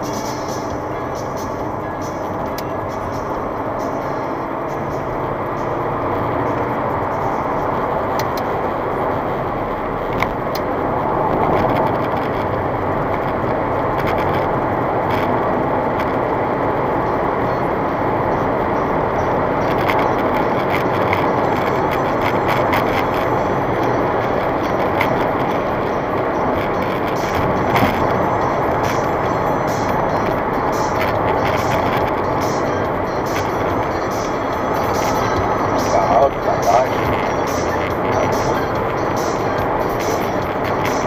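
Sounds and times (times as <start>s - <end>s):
car engine accelerating: 0.0s - 41.0s
tyre and wind noise: 6.3s - 41.0s.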